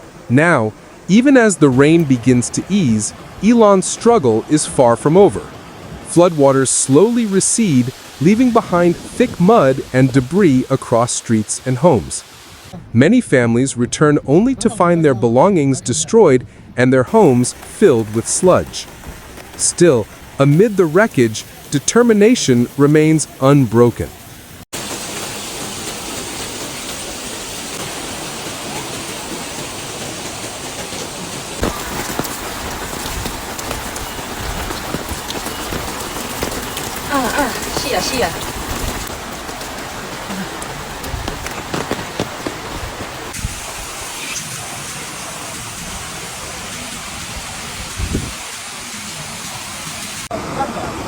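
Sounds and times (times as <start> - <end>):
water rushing: 0.0 - 12.8, 14.0 - 51.0.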